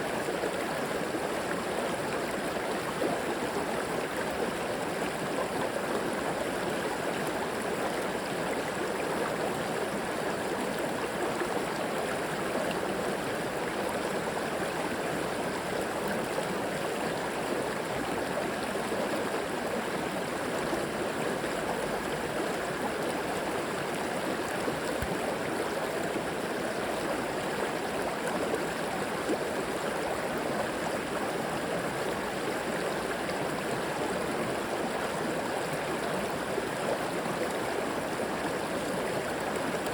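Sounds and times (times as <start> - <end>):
river water flowing over rocks: 0.1 - 39.9.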